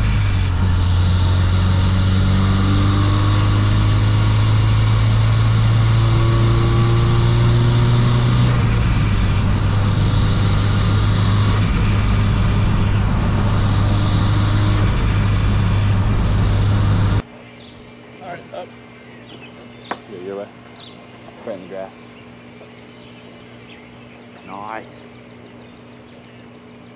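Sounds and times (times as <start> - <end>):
car engine drone: 0.0 - 26.9
road noise: 0.0 - 26.9.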